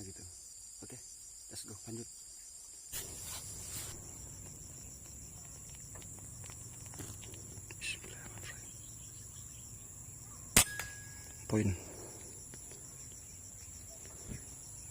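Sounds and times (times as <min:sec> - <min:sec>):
high-pitched insect chorus: 0:00.0 - 0:14.9.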